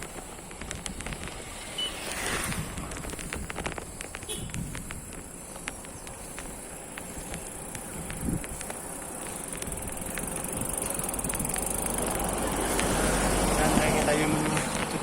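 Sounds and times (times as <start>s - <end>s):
low wind: 0.0s - 15.0s
road rumble: 0.0s - 15.0s.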